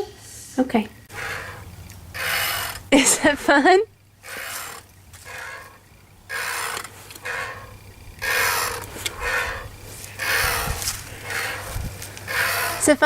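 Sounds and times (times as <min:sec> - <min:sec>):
toy tractor creaking and rasping: 0:01.1 - 0:03.5, 0:04.1 - 0:13.0.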